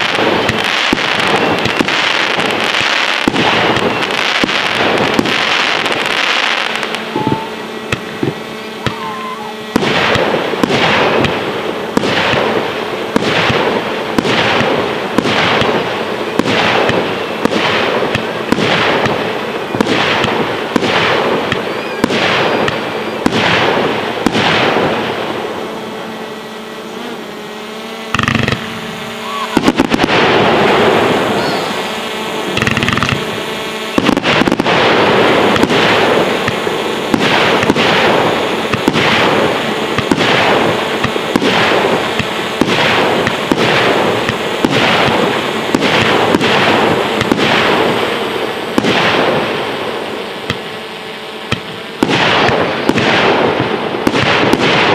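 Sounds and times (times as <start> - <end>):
loud firework bang: 0.0 - 26.3, 28.1 - 48.1
firework crackling: 0.0 - 54.9
firework volley: 0.0 - 54.9.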